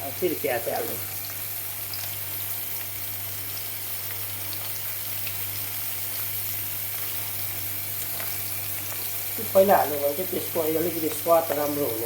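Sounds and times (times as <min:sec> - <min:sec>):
onions sizzling in hot oil: 0:00.0 - 0:12.0
small crackles: 0:00.8 - 0:12.0.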